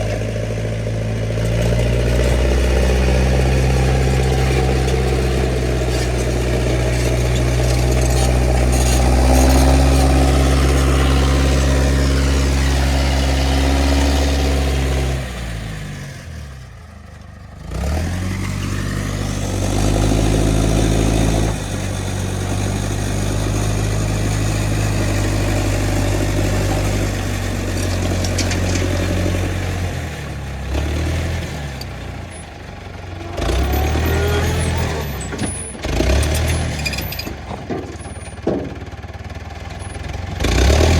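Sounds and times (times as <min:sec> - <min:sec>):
crawler loader engine running: 0:00.0 - 0:40.9.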